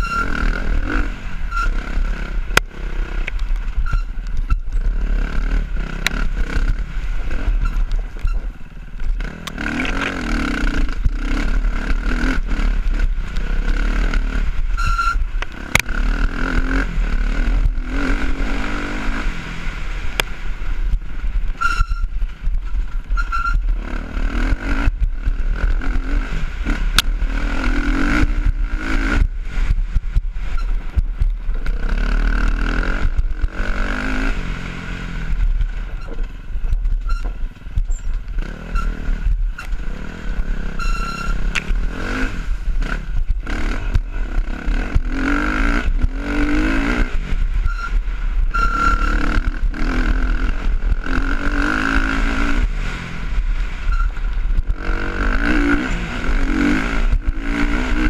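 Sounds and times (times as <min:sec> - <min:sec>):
engine revving: 0:00.0 - 0:08.4, 0:09.0 - 0:20.3, 0:23.7 - 0:36.2, 0:38.2 - 0:58.0
wind rumble on microphone: 0:00.0 - 0:58.0.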